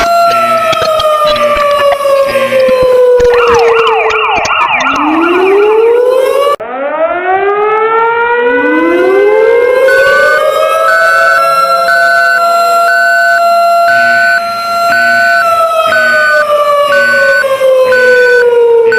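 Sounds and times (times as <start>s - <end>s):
falling siren tone: 0.0s - 18.9s
sirens winding up: 0.0s - 18.9s
warbling siren yelp: 0.0s - 18.9s.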